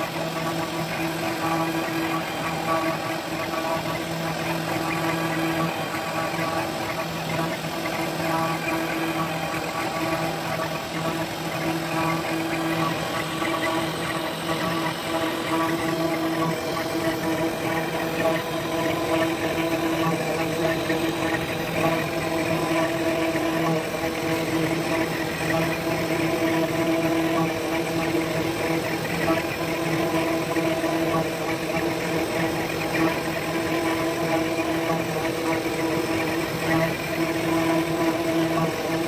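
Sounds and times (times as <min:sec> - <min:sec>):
router spindle motor whine: 0:00.0 - 0:39.0.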